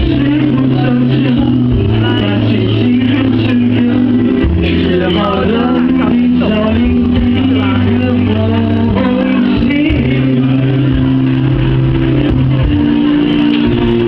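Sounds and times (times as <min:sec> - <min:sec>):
karaoke pop backing track: 0:00.0 - 0:14.0
man singing into microphone: 0:00.0 - 0:14.0.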